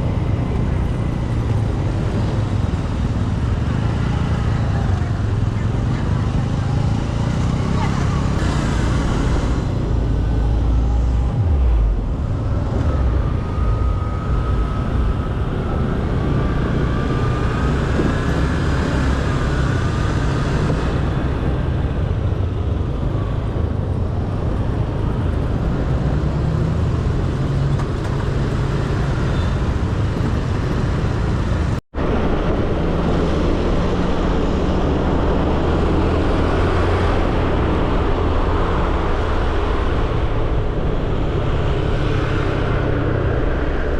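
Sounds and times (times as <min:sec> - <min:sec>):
engine rumbling while travelling: 0:00.0 - 0:43.9.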